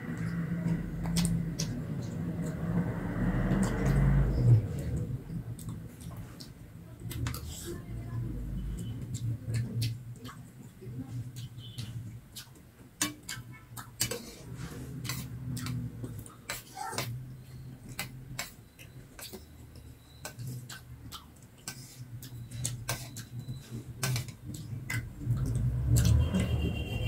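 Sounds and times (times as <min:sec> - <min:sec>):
chewing hard rice grains: 0:00.0 - 0:26.6.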